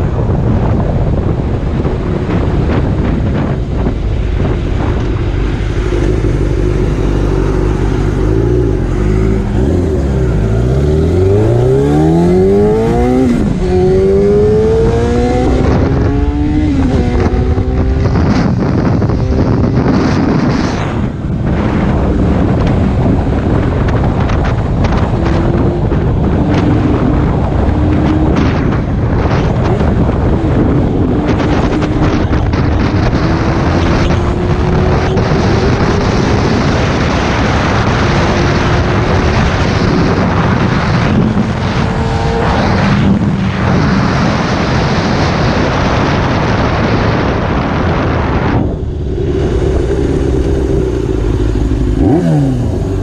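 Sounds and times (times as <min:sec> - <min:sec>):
motorcycle engine drone: 0:00.0 - 0:53.0
wind noise on microphone: 0:00.0 - 0:53.0.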